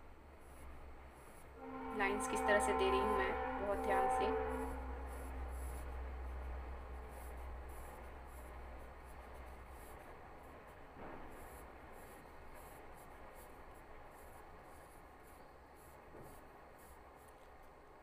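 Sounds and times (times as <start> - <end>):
pencil scratching on paper: 0.4 - 17.7.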